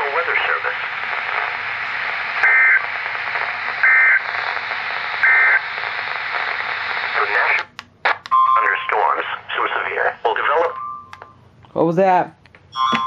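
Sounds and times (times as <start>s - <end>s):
radio hiss: 0.0s - 10.7s.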